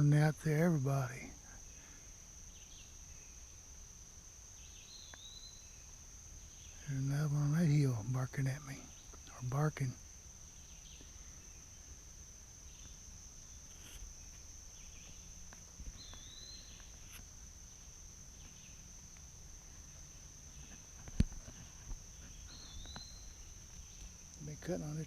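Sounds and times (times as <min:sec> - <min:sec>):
insects droning trill: 0:00.0 - 0:25.0.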